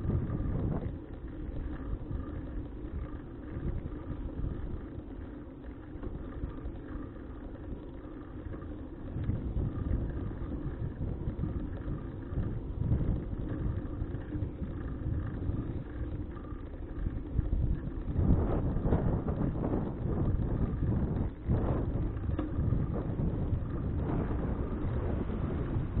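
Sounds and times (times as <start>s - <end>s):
bicycle road rumble: 0.0s - 26.0s
wind buffeting microphone: 0.0s - 26.0s.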